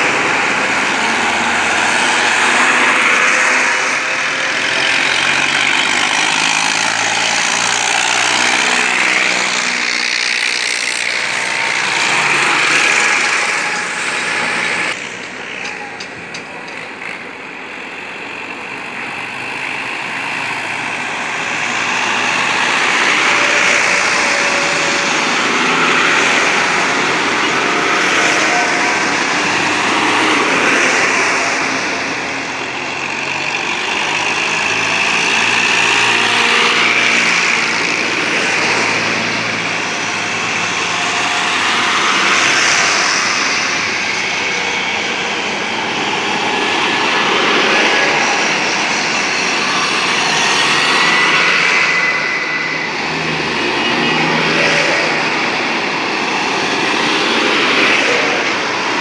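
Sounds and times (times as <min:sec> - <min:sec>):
tractor diesel engines: 0:00.0 - 0:59.0.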